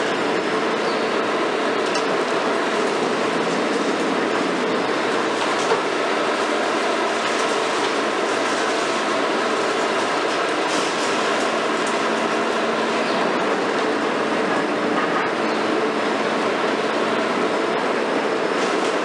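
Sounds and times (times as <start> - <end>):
excavator engine and hydraulics droning: 0.0 - 19.0.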